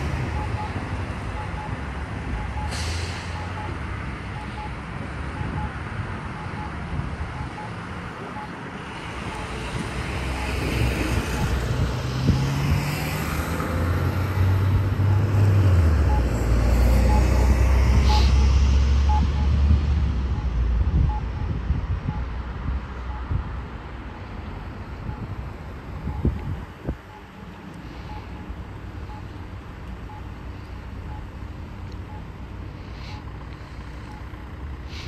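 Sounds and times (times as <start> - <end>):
pedestrian signal locator tone ticking: 0.0 - 12.7, 14.4 - 34.8
bus and cars driving: 0.0 - 35.0.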